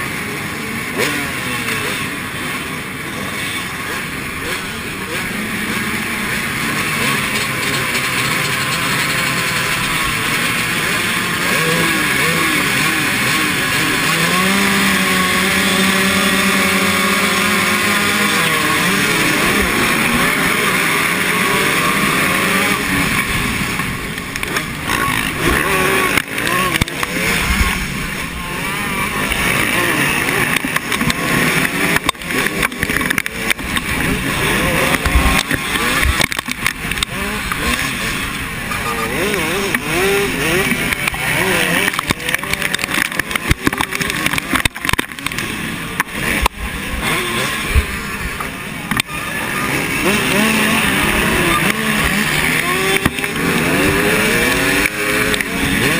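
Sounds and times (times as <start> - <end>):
motocross bikes revving past: 0.0 - 55.9.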